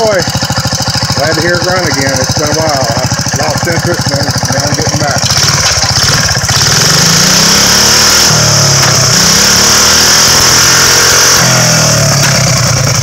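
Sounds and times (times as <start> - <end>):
single-cylinder engine revving: 0.0 - 13.0.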